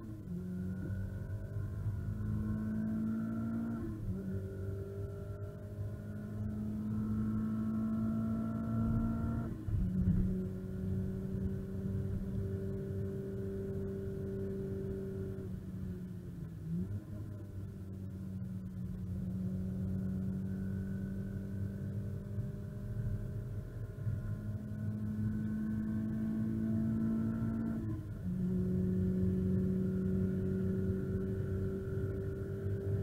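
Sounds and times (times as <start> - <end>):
car engine accelerating: 0.0 - 33.0
road and wind rumble: 0.0 - 33.0.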